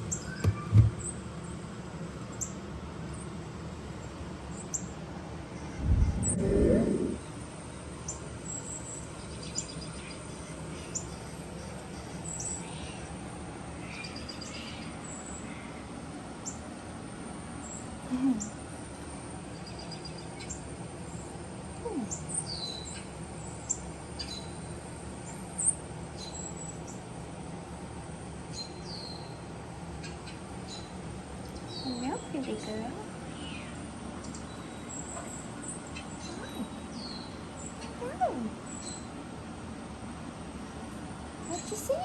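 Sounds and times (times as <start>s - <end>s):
low background hum: 0.0s - 42.0s.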